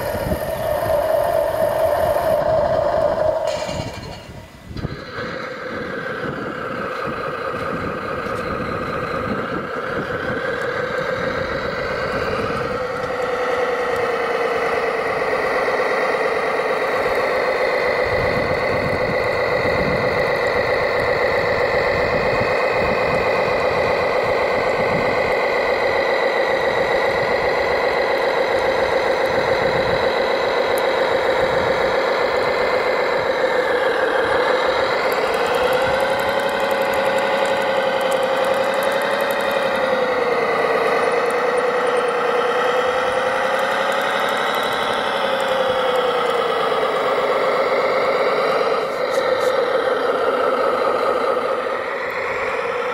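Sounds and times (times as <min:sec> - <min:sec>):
model bulldozer motor drone: 0:00.0 - 0:52.9.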